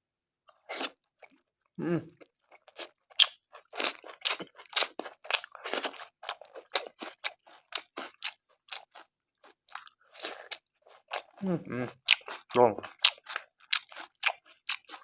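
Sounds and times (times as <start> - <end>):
person chewing food: 2.1 - 15.0.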